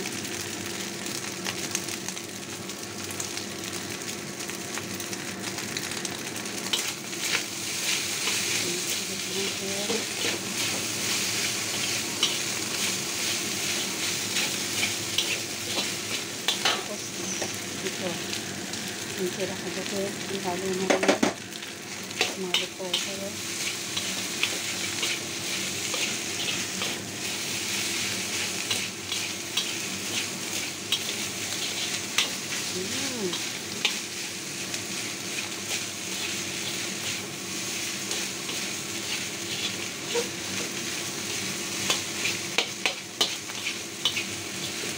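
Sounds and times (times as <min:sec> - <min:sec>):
rice sizzling in a wok: 0:00.0 - 0:44.9.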